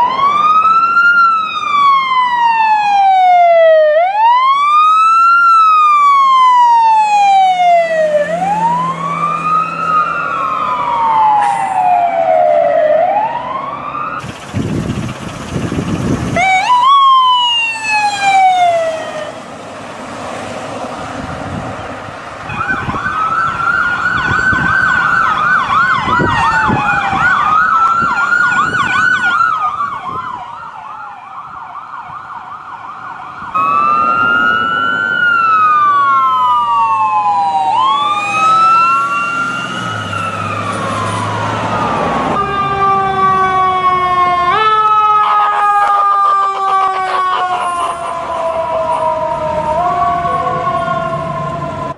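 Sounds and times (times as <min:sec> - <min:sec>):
ambulance siren wailing: 0:00.0 - 0:51.9.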